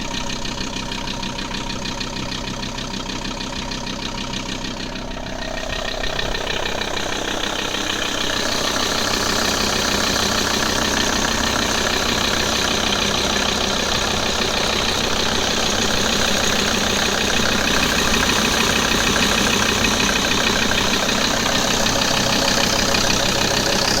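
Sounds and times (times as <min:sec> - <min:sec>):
diesel engine clatter: 0:00.0 - 0:24.0.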